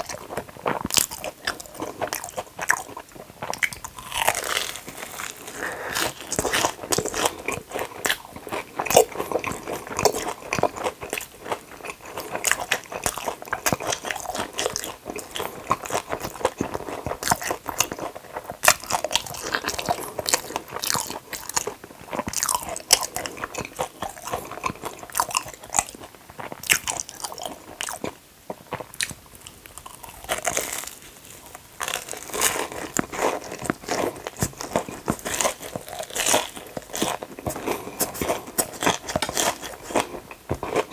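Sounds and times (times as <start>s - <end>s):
crunchy biting and chewing: 0.0s - 40.9s.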